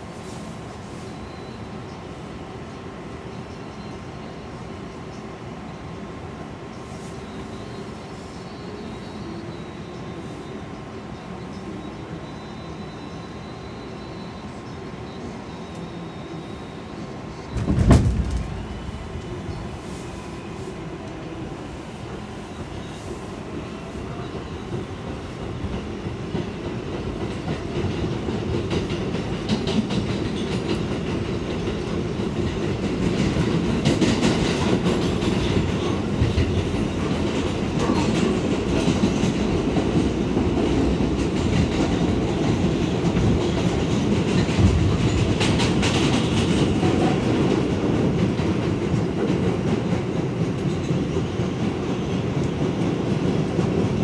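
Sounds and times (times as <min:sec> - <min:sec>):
subway wheels rumbling on track: 0:00.0 - 0:54.0.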